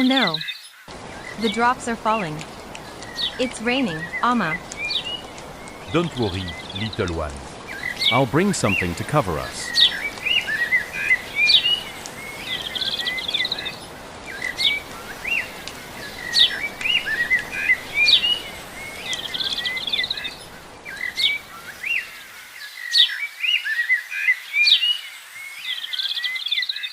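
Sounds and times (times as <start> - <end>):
small birds chirping: 0.0 - 23.2
steady background hiss: 0.9 - 23.6.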